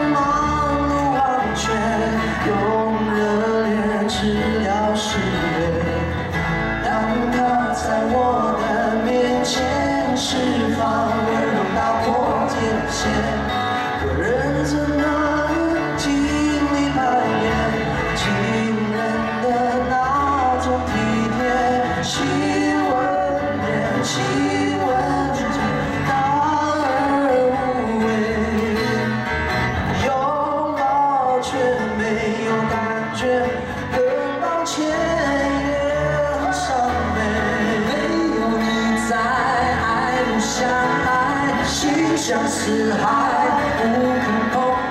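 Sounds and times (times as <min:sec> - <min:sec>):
men singing: 0:00.0 - 0:44.9
strummed acoustic guitars: 0:00.0 - 0:44.9.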